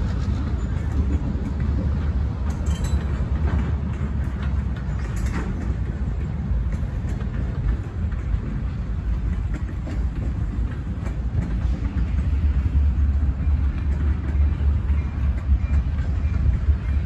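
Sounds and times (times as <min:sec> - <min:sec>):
diesel freight train rumbling: 0:00.0 - 0:17.0.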